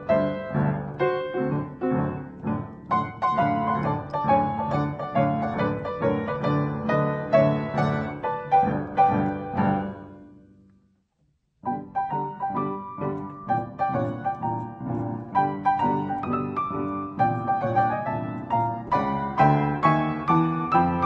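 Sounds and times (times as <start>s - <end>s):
silent film piano: 0.0s - 21.0s.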